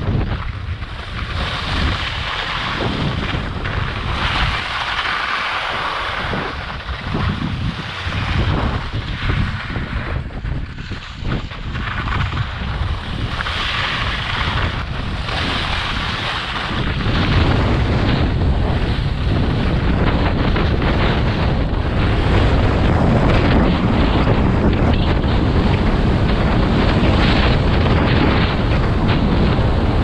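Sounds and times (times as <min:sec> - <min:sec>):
skis sliding on snow: 0:00.0 - 0:30.0
wind buffeting microphone: 0:00.0 - 0:30.0.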